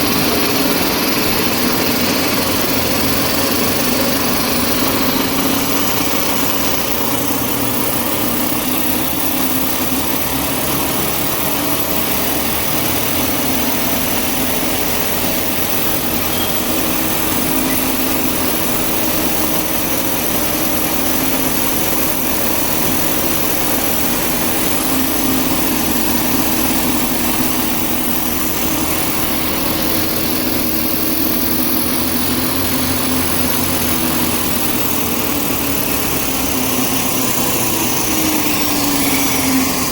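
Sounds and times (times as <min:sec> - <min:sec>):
machine whirring: 0:00.0 - 0:39.9.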